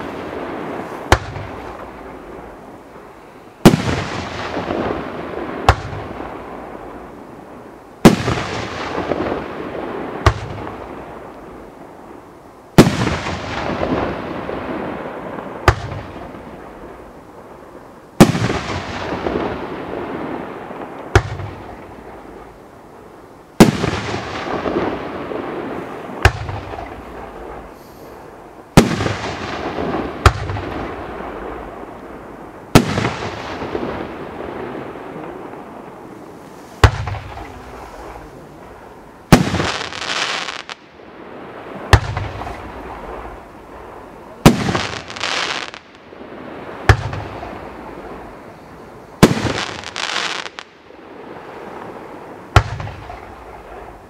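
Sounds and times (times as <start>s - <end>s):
sharp firework report: 0.0s - 7.2s, 8.0s - 11.8s, 12.7s - 17.2s, 18.2s - 22.6s, 23.6s - 54.0s
noisy firework tail: 0.0s - 54.0s.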